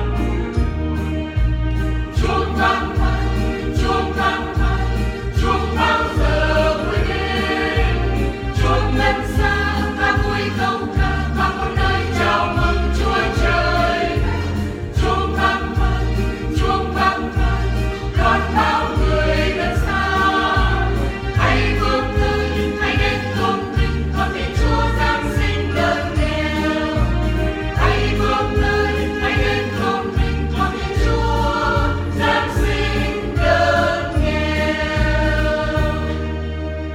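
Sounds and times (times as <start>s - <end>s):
instrumental accompaniment: 0.0s - 36.9s
choir singing a hymn: 1.8s - 36.9s.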